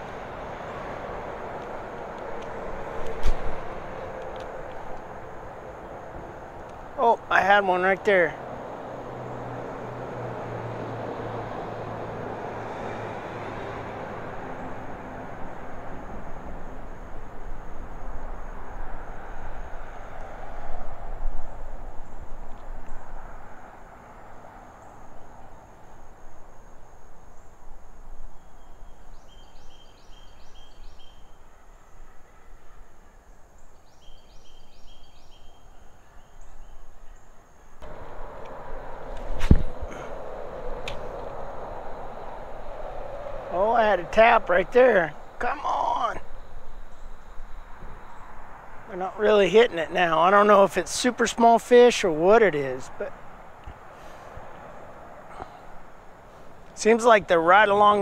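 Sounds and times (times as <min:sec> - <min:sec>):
passing vehicle rumble: 0:00.0 - 0:31.3, 0:37.7 - 0:58.0.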